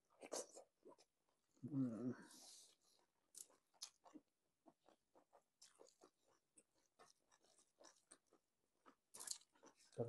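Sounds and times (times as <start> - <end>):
chewing with wet mouth clicks: 0.1 - 1.6, 2.6 - 10.0.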